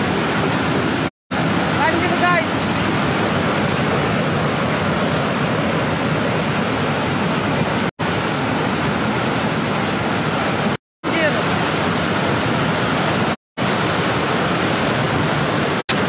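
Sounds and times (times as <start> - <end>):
floodwater rushing over weir: 0.0 - 16.0.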